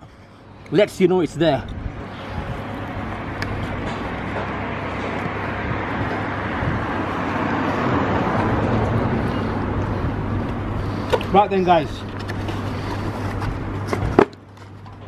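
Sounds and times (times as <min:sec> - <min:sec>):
steady low hum: 0:00.0 - 0:15.0
vehicle passing: 0:00.6 - 0:14.2.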